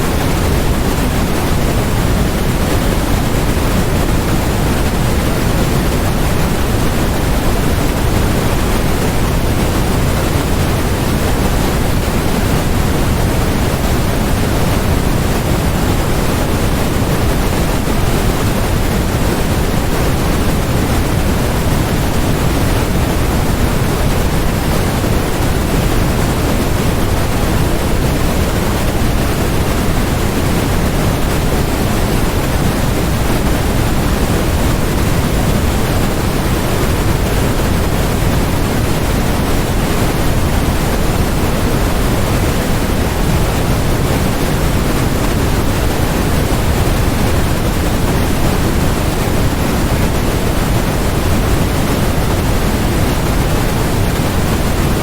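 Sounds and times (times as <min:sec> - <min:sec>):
steady electronic noise hiss: 0:00.0 - 0:55.0.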